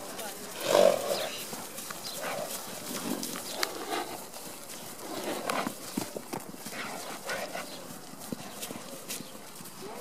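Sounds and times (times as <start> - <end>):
horse hoofbeats on grass: 0.0 - 10.0.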